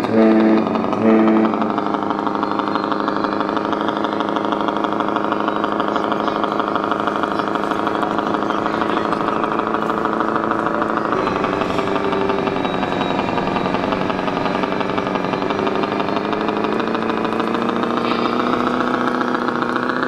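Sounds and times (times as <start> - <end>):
diesel engine sound through speaker: 0.0 - 20.0.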